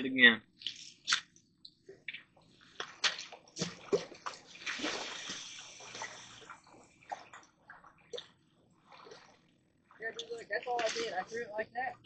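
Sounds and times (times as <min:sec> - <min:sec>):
water sloshing and splashing: 0:00.5 - 0:12.0.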